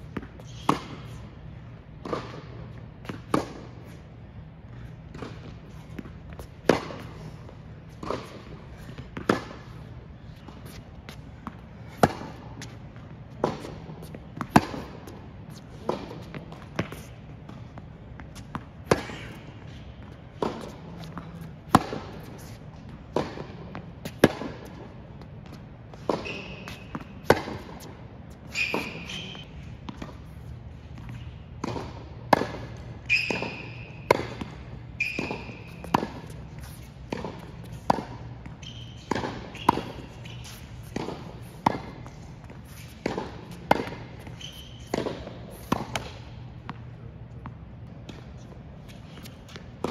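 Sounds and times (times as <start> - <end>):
racquet hitting tennis ball: 0.0 - 1.2, 2.0 - 3.8, 5.0 - 49.9
shoes squeaking on court: 0.0 - 49.9
ball bouncing on hard court: 2.0 - 4.0, 4.8 - 49.9.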